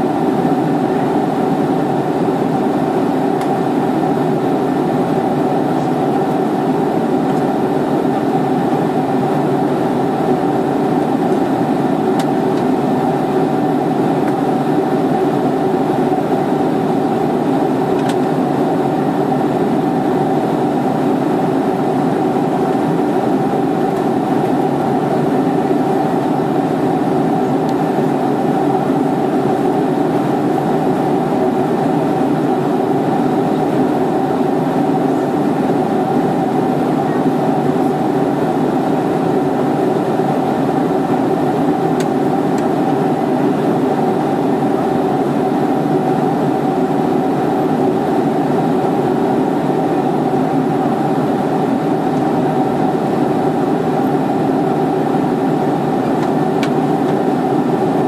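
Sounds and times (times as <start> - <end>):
airliner cabin hum: 0.0 - 58.0.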